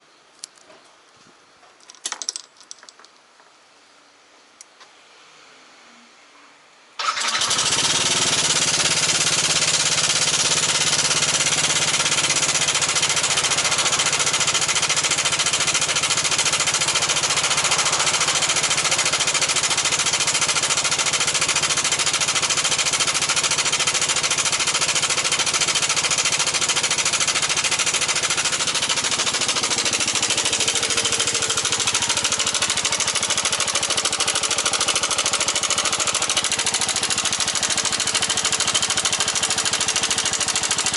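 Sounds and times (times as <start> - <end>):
scooter engine rattling: 7.0 - 40.9.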